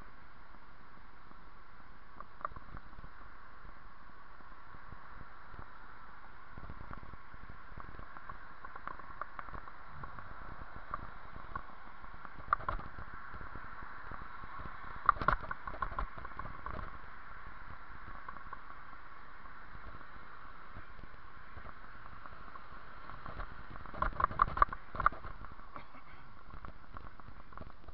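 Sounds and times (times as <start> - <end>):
bicycle wind and road hiss: 0.0 - 27.9.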